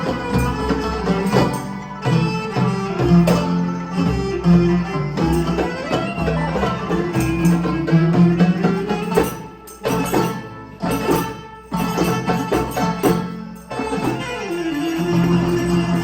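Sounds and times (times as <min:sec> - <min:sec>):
hand percussion strikes: 0:00.0 - 0:16.0
pitched folk melody: 0:00.0 - 0:16.0.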